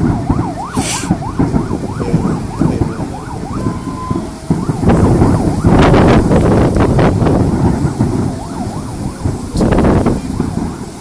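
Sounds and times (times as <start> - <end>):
loud rush of noise: 0.0 - 11.0
siren yelping: 0.0 - 11.0
wind rumble on microphone: 0.0 - 11.0.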